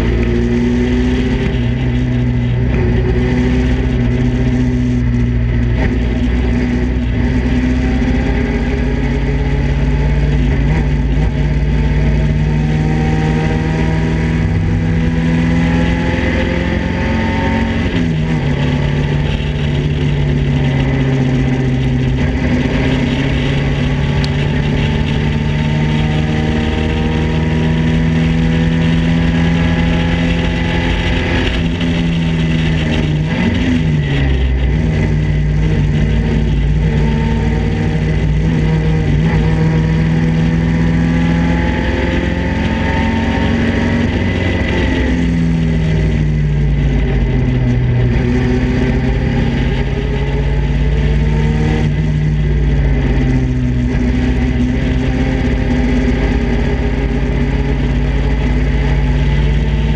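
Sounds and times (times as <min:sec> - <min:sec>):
car engine at high revs: 0:00.0 - 0:59.9
wind rush: 0:00.0 - 0:59.9.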